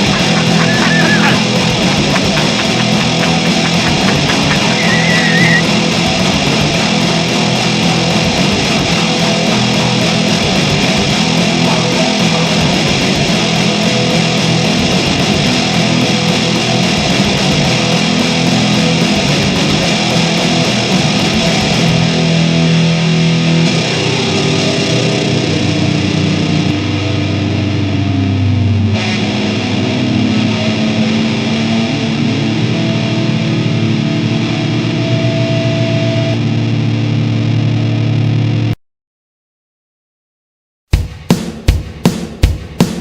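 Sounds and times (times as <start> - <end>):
bass guitar: 0.0 - 38.8
distorted electric guitar: 0.0 - 38.8.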